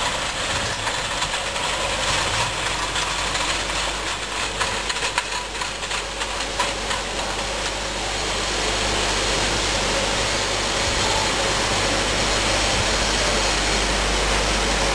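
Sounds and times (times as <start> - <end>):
packaging machine running: 0.0 - 14.9.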